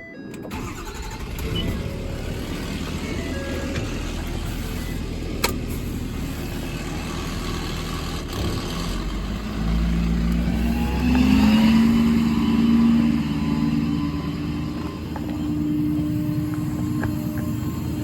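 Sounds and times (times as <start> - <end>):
diesel engine revving: 0.5 - 18.0.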